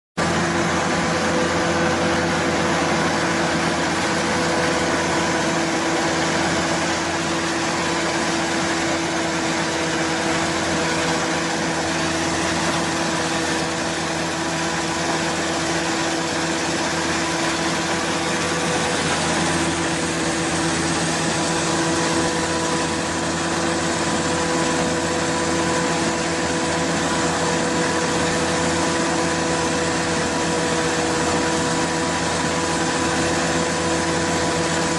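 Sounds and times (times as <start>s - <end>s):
corn thresher running: 0.2s - 34.9s.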